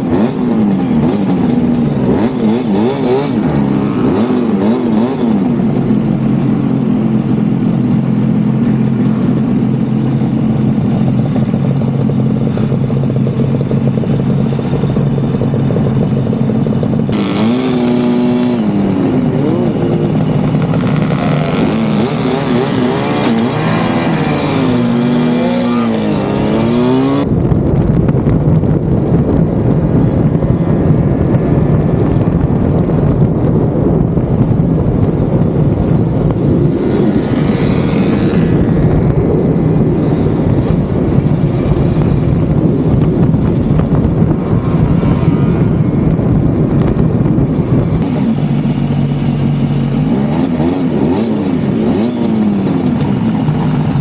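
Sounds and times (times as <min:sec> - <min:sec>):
motorcycle engine revving: 0:00.0 - 0:27.4, 0:29.5 - 0:54.0
other motorcycles riding nearby: 0:00.0 - 0:54.0
wind buffeting microphone: 0:00.0 - 0:54.0.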